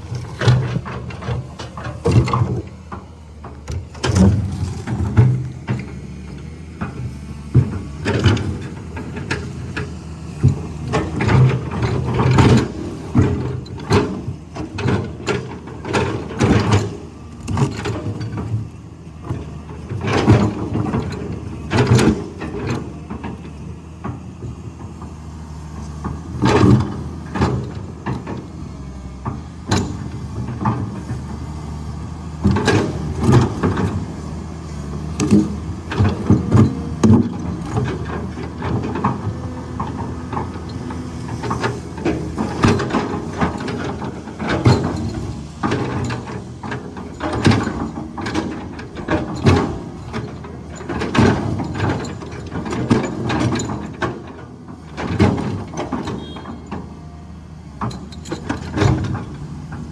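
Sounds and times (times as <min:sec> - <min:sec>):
excavator bucket clanking on rock: 0:00.0 - 0:57.0, 0:57.7 - 0:59.9
excavator diesel engine running: 0:00.0 - 0:59.9.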